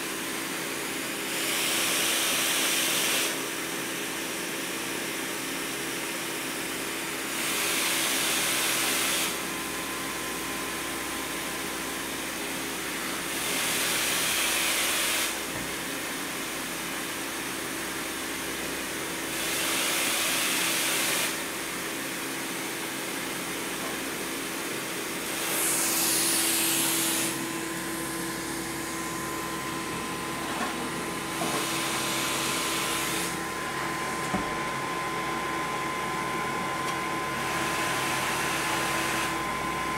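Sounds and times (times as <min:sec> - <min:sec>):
ventilator blower hum: 0:00.0 - 0:39.9.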